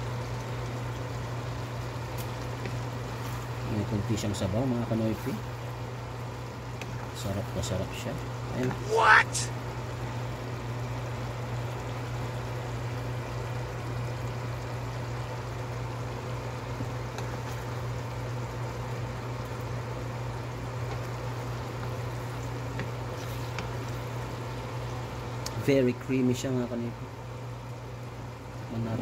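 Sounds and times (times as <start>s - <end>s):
sauce bubbling in a pan: 0.0s - 8.8s, 9.5s - 28.7s.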